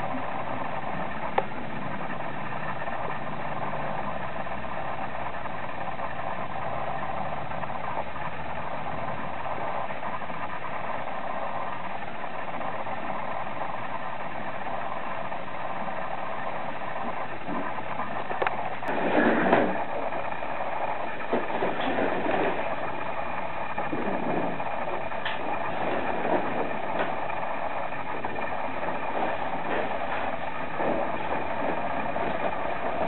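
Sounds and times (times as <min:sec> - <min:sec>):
steady mechanical drone: 0:00.0 - 0:33.0.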